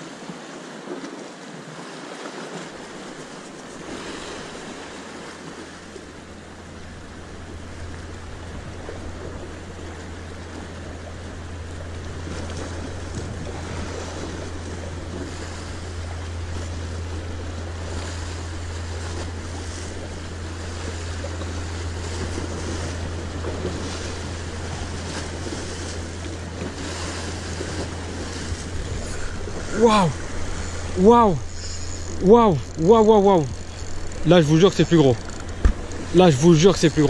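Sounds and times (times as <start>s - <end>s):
sea waves washing on shore: 0.0s - 37.0s
wind rumble on microphone: 3.1s - 32.9s.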